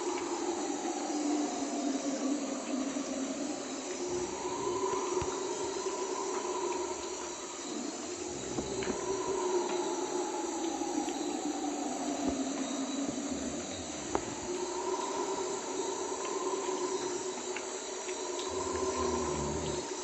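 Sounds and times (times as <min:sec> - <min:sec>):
howler monkeys howling: 0:00.0 - 0:20.0
rain hiss: 0:00.0 - 0:20.0.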